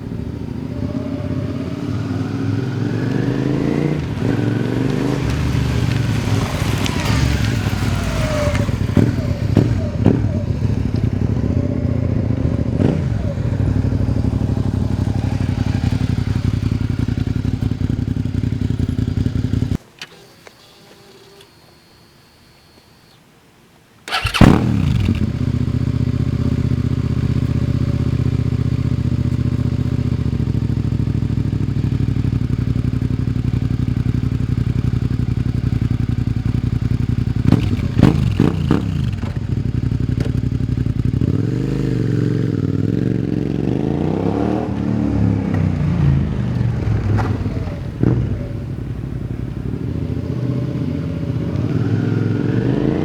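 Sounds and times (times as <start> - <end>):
motorcycle engine idling and revving: 0.0 - 19.8, 24.1 - 53.0.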